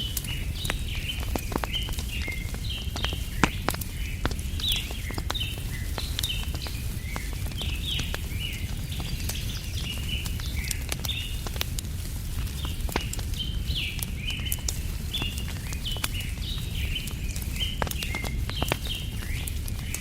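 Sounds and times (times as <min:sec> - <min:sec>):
small birds chirping: 0:00.0 - 0:20.0
wood fire crackling: 0:00.0 - 0:20.0.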